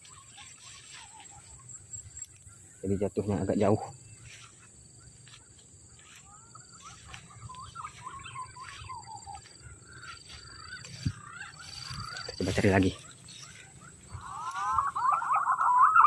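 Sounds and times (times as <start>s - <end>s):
birds chirping: 0.0s - 16.0s
footsteps through tall grass: 0.0s - 16.0s
high insect tone: 0.0s - 16.0s.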